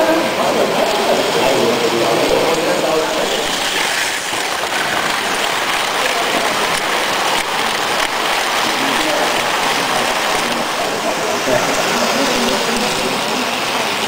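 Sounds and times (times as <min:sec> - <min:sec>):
model train running on rails: 0:00.0 - 0:14.0
murmur of voices: 0:00.0 - 0:14.0.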